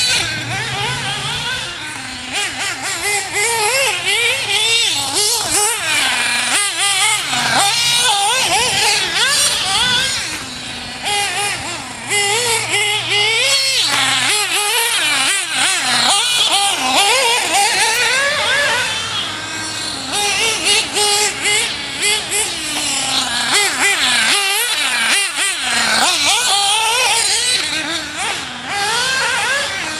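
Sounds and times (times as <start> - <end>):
model engine high-pitched whine revving: 0.0 - 29.9.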